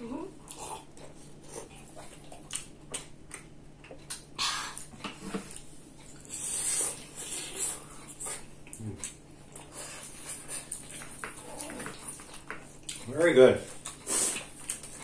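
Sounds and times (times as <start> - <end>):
chewing and mouth smacking: 0.4 - 15.0.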